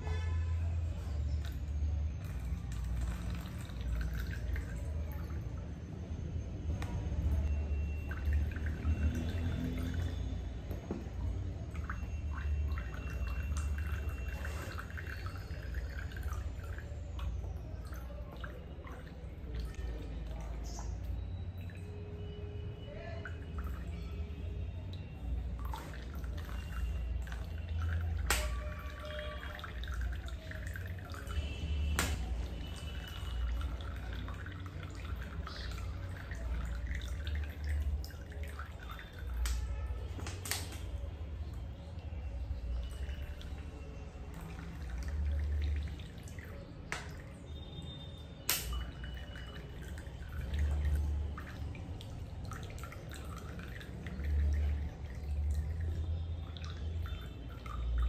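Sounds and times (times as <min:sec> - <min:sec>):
low steady hum: 0:00.0 - 0:58.0
water dripping into plastic cup: 0:00.1 - 0:58.0.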